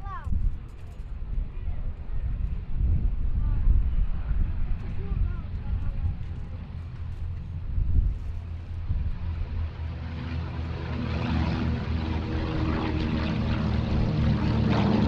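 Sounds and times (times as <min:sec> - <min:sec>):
radial piston engines with propeller drone: 0:00.0 - 0:15.0.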